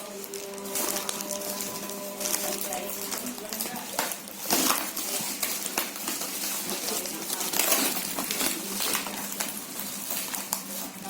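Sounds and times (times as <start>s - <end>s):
crackling rustling handling noise: 0.0s - 11.0s.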